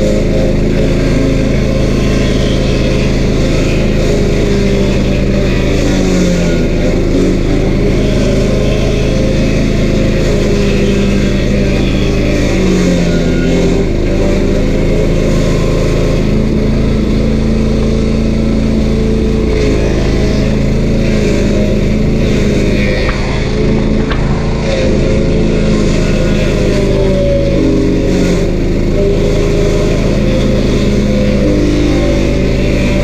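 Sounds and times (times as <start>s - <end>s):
stump grinder engine running: 0.0s - 33.0s.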